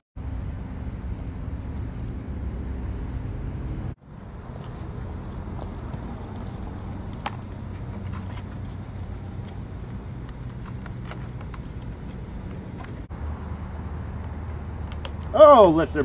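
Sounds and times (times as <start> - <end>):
faint droning tone: 0.2 - 16.0
low outdoor hum: 0.2 - 16.0.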